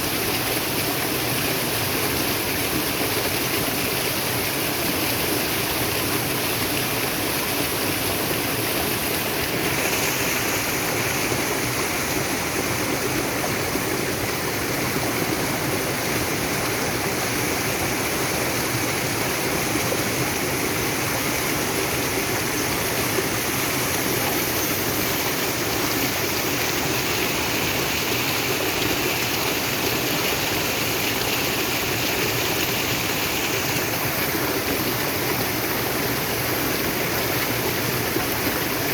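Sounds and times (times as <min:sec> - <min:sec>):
stream rushing and splashing: 0:00.0 - 0:38.9.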